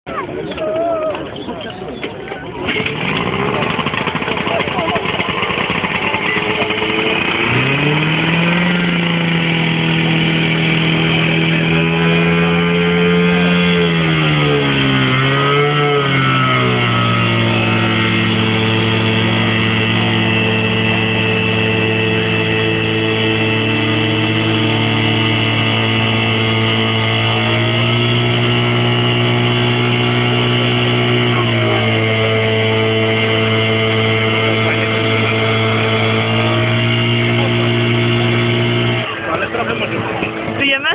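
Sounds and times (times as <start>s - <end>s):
engine revving: 2.5s - 40.9s.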